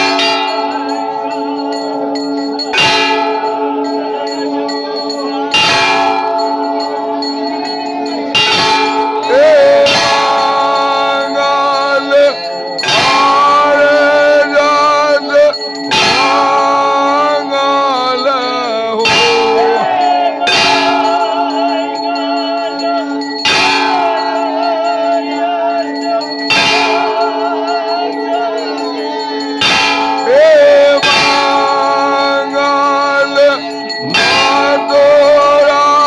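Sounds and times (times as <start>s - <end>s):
people singing: 0.0s - 36.0s
temple bells ringing: 0.0s - 36.0s.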